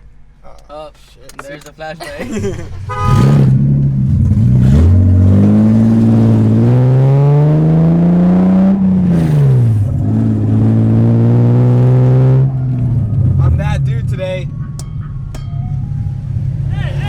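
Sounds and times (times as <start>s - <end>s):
car engine revving: 2.1s - 17.0s.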